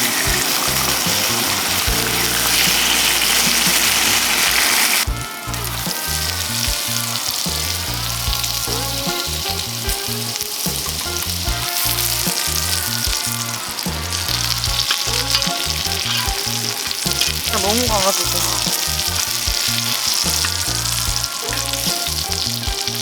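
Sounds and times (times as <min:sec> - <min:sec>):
food sizzling in a pan: 0:00.0 - 0:23.0
music: 0:00.0 - 0:23.0.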